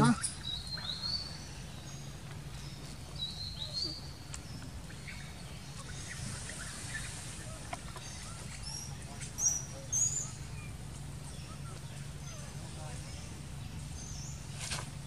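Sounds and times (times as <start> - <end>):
high chirping calls: 0.0 - 14.5
steady low hum: 0.0 - 15.0.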